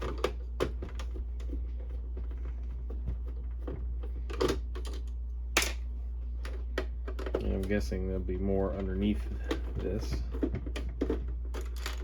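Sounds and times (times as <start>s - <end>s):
plastic parts clicking and knocking: 0.0s - 5.8s, 6.4s - 7.8s, 8.7s - 12.0s
steady low hum: 0.0s - 12.0s.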